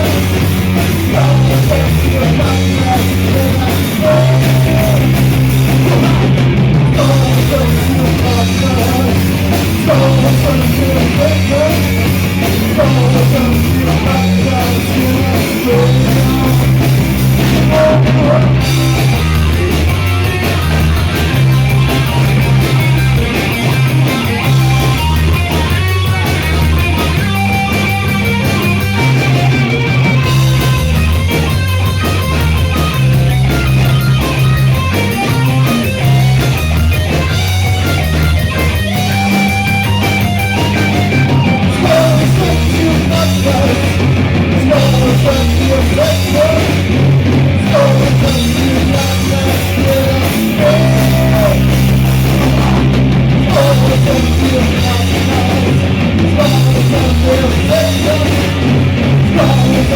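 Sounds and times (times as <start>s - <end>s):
bass line held notes: 0.0s - 59.9s
live rock band: 0.0s - 59.9s.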